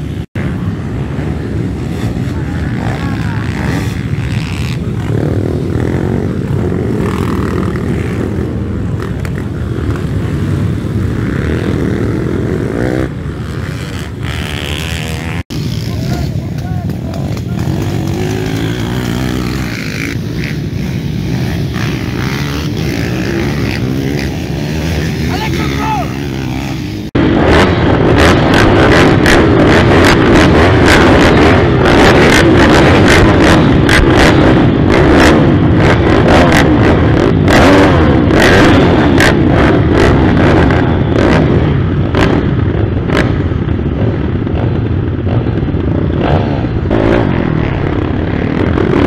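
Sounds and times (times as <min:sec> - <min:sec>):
pit bike engines revving: 0:00.0 - 0:49.0.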